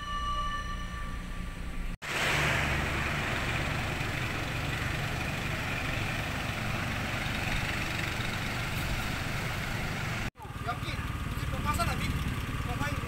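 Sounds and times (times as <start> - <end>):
truck engine running: 1.5 - 13.0.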